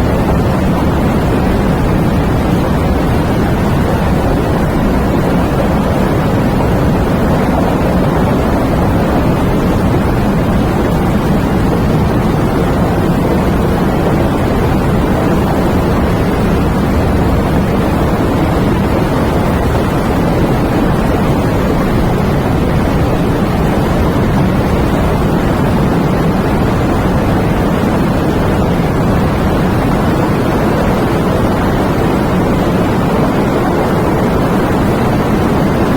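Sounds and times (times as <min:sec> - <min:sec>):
rain: 0:00.0 - 0:35.9
wind: 0:00.0 - 0:35.9.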